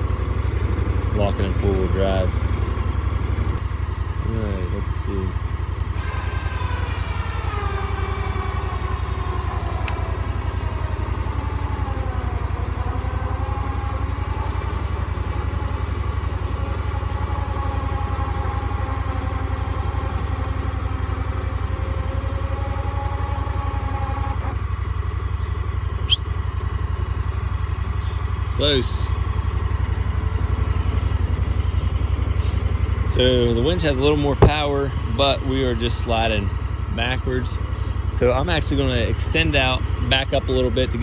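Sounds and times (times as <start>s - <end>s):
electric winch whining under load: 0.0s - 41.0s
utility vehicle engine idling: 0.0s - 41.0s.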